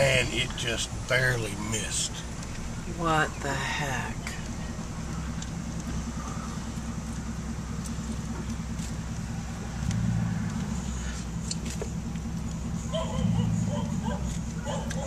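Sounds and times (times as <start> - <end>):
car engine humming from inside cabin: 0.0 - 15.0.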